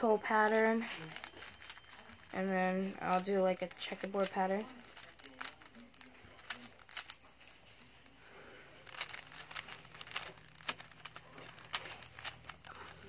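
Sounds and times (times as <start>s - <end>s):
plastic puzzle cube clicking: 0.5s - 7.2s, 8.8s - 13.0s.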